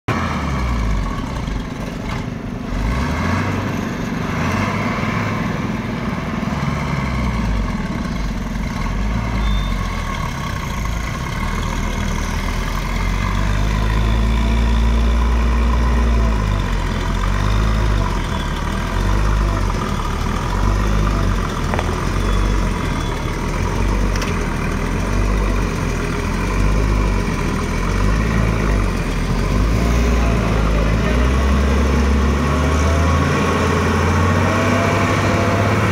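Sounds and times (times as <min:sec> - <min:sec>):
truck diesel engine rumbling: 0:00.1 - 0:35.9.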